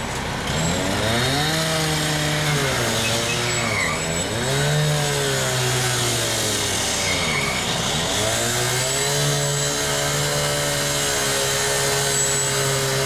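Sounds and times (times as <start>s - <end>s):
power saw revving: 0.0s - 13.0s.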